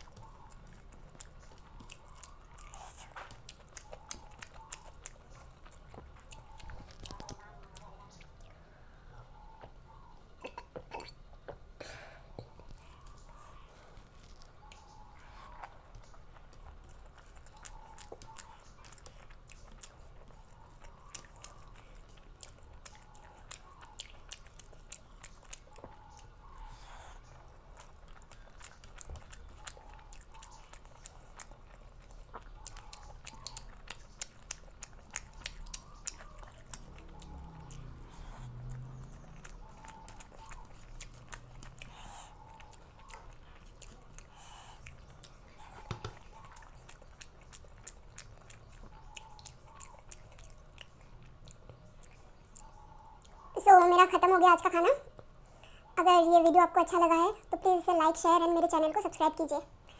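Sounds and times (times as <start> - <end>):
food crunching: 0.0 - 8.6, 12.4 - 55.8
close chewing and mouth smacks: 0.0 - 59.9.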